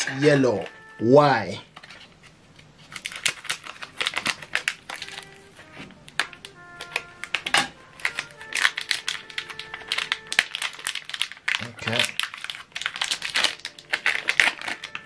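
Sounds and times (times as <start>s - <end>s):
plastic wrapper crinkling: 1.7s - 15.0s.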